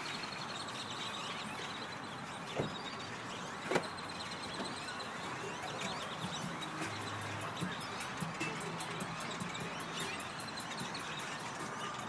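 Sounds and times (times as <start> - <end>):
flock of birds chirping: 0.0 - 12.0.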